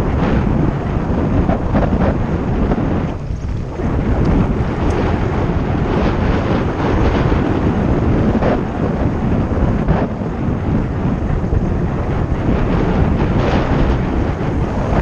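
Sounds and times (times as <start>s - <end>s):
mountain bike rattling on trail: 0.0s - 15.0s
wind buffeting microphone: 0.0s - 15.0s.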